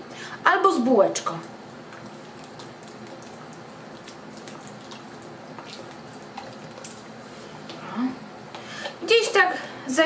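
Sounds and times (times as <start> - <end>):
beans simmering: 0.0 - 10.0.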